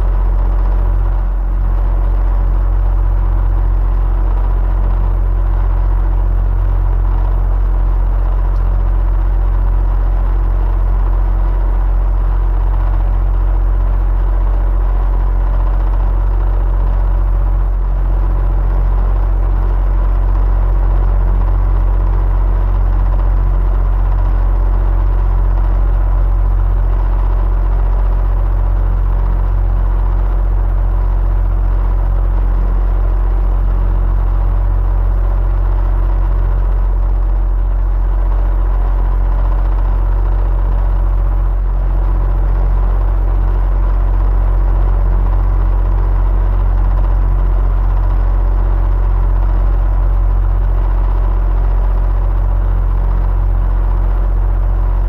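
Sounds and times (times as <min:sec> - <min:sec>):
electric fan running: 0:00.0 - 0:55.0
faint steady whine: 0:00.0 - 0:55.0.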